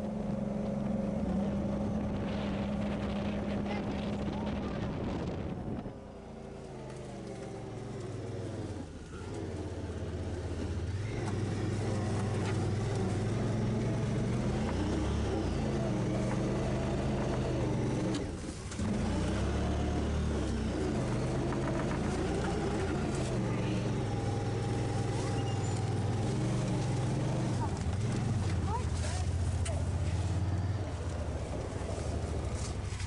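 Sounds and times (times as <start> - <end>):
utv engine running under load: 0.0 - 33.0.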